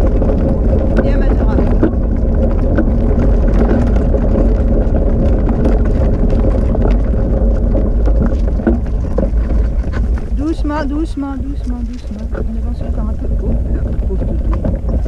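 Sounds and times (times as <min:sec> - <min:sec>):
cart rolling on wet road: 0:00.0 - 0:15.0
clicks and rattles: 0:00.0 - 0:15.0.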